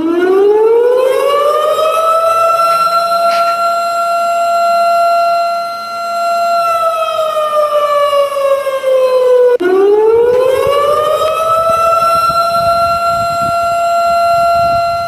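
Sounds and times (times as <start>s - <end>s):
siren alarm tone: 0.0s - 15.0s.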